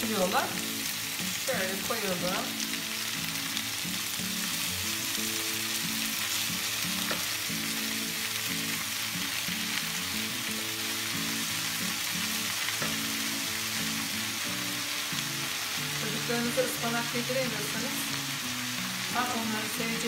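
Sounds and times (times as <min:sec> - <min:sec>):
soft background music: 0:00.0 - 0:20.0
vegetables sizzling in hot oil: 0:00.0 - 0:20.0.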